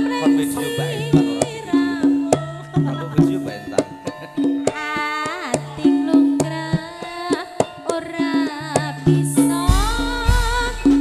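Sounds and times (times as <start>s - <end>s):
woman singing: 0.0s - 3.5s, 4.4s - 11.0s
hand drum strokes: 0.0s - 11.0s
metallophone tones: 0.0s - 11.0s.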